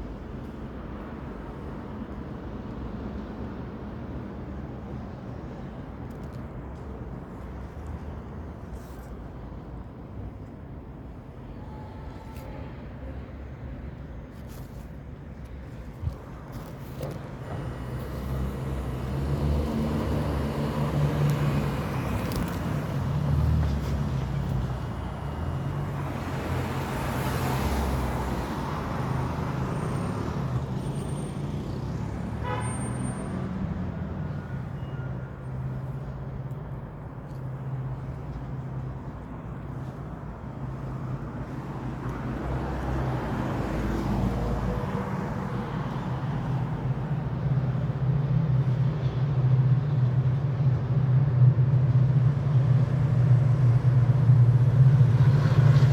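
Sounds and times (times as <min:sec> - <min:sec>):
low engine rumble of traffic: 0:00.0 - 0:55.9
vehicles passing: 0:00.0 - 0:55.9.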